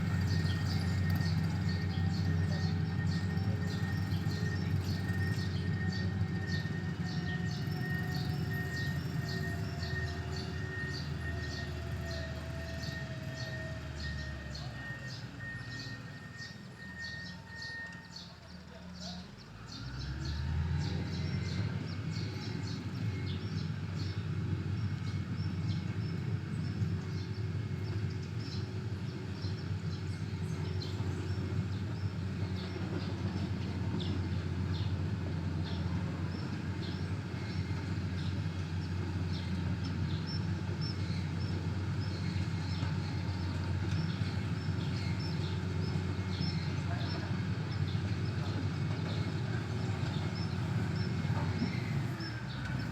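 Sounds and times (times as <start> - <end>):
birds chirping: 0.0 - 52.9
heavy machinery engine rumbling: 0.0 - 52.9.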